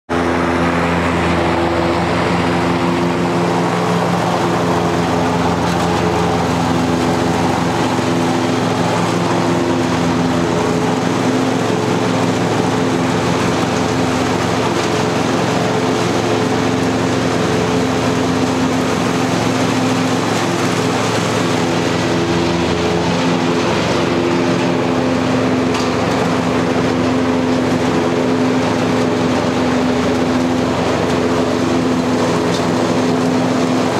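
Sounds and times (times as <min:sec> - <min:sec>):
mower engine running: 0:00.1 - 0:33.9.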